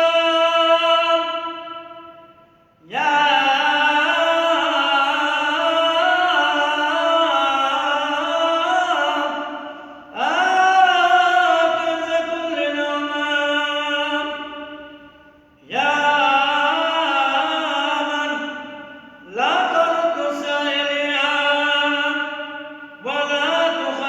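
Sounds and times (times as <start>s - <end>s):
man chanting a prayer: 0.0s - 1.8s, 2.8s - 15.0s, 15.6s - 24.0s.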